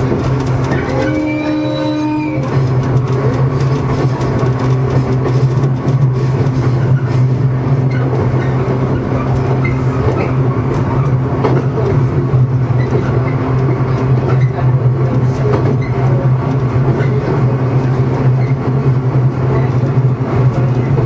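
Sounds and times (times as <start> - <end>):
electric train running hum: 0.0 - 21.0
wheels on rails: 0.0 - 21.0.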